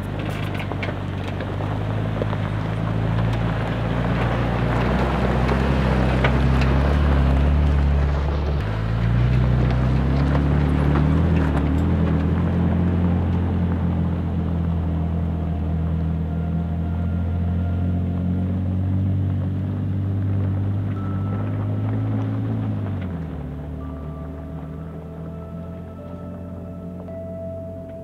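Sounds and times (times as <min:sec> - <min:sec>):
pickup truck engine: 0:00.0 - 0:28.0
tyre and road noise: 0:00.0 - 0:28.0.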